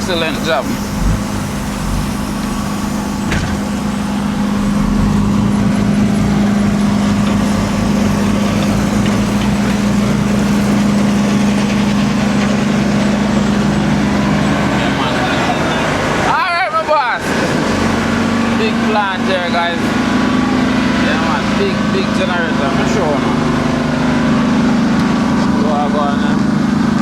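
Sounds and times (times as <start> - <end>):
heavy truck engine running: 0.0 - 27.0.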